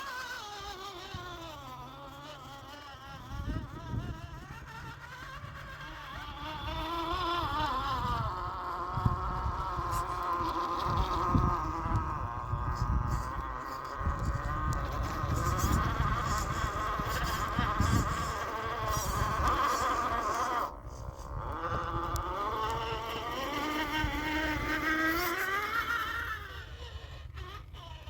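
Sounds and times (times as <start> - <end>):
rc car electric motor whining: 0.0 - 28.0.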